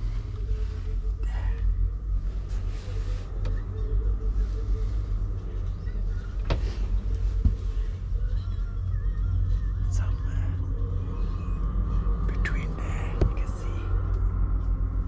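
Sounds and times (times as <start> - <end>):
truck engine rumble from cab: 0.0 - 15.0.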